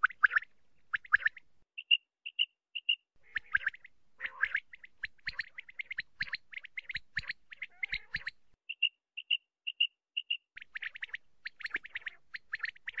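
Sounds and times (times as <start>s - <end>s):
quail chirping: 0.0s - 13.0s.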